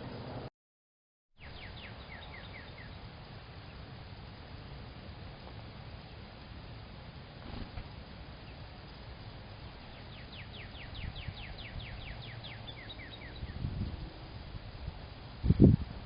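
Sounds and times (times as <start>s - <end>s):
songbird singing: 1.4s - 15.8s.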